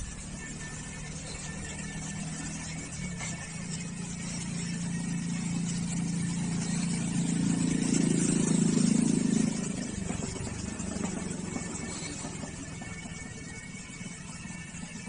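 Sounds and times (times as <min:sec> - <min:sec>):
toy car motor humming: 0:00.0 - 0:15.0.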